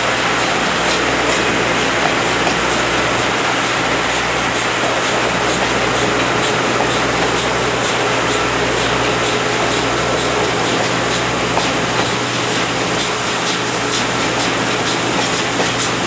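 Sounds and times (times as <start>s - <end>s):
rushing air: 0.0s - 14.4s
train wheels on rails: 0.0s - 16.0s.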